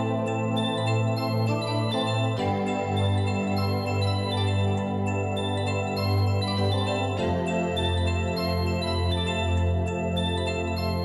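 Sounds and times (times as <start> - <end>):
bell-like notes: 0.0 - 11.0.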